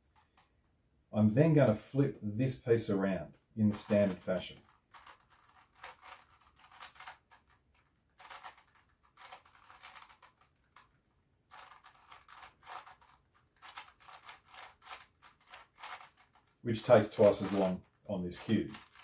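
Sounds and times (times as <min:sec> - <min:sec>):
puzzle cube clicking and scraping: 0:03.6 - 0:19.0.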